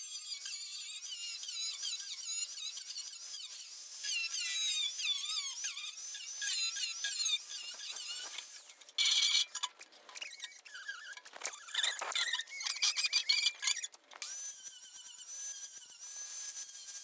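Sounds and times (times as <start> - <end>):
grinder wheel squealing on metal: 0.0 - 17.0.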